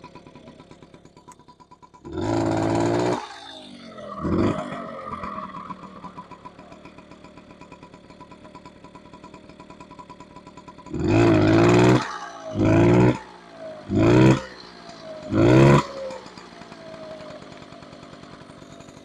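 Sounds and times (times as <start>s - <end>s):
moped engine idling and revving: 0.0s - 19.0s.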